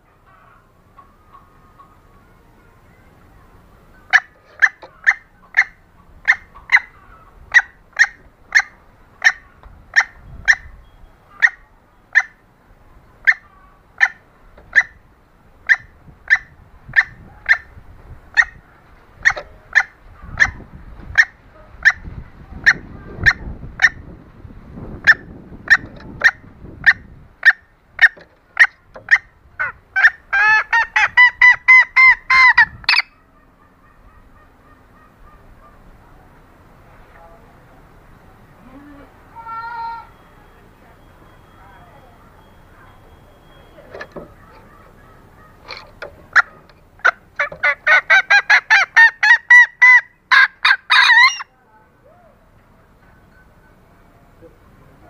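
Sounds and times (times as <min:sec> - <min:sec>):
hen clucking call: 0:00.0 - 0:12.6, 0:13.2 - 0:24.2, 0:25.0 - 0:36.0, 0:38.6 - 0:51.5.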